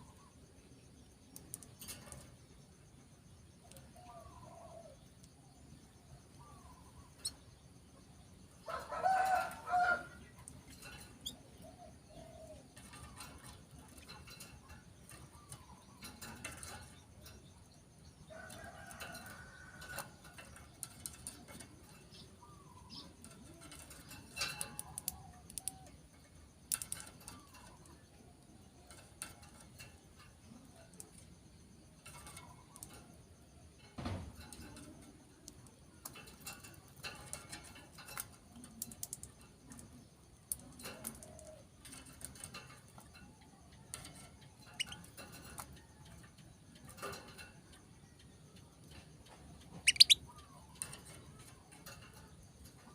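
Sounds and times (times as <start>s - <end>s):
birds calling faintly: 0.0s - 52.9s.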